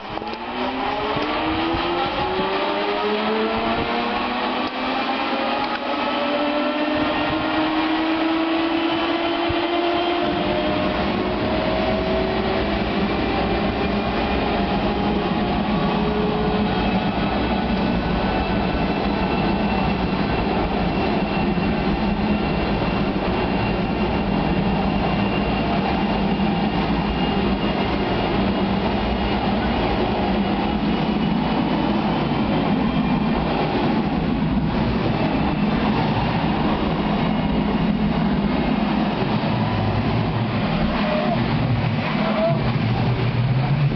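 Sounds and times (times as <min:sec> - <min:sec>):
turbojet engine whine rising: 0:00.0 - 0:43.9.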